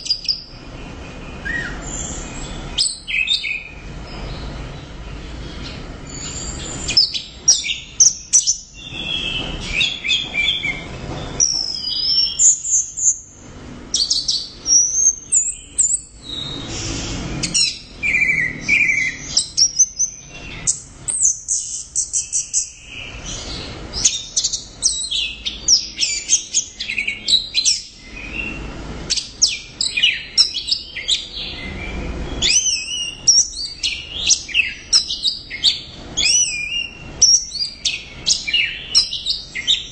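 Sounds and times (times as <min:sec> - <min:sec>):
thrush singing whistles and trills: 0:00.0 - 0:39.9.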